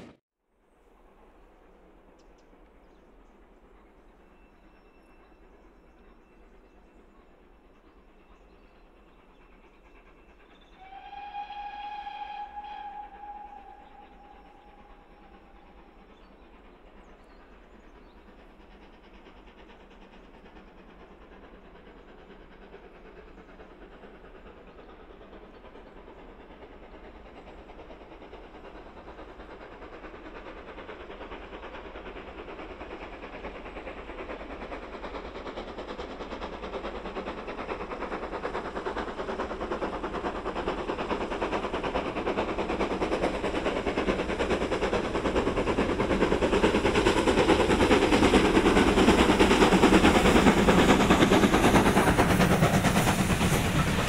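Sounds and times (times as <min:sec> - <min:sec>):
steam locomotive exhaust chuffs: 0:00.0 - 0:54.0.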